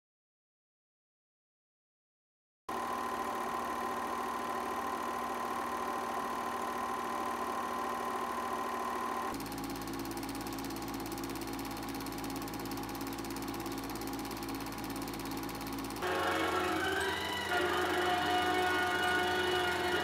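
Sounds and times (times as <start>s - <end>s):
film projector whirring and clattering: 2.7s - 20.0s.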